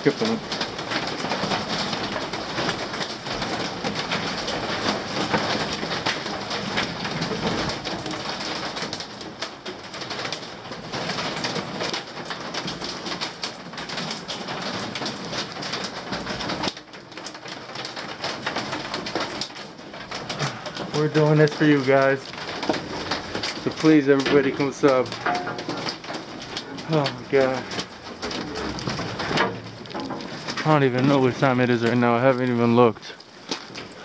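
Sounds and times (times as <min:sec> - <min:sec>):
crackling clicks: 0:00.0 - 0:34.0
rain hissing: 0:00.0 - 0:34.0
rustling: 0:00.0 - 0:34.0.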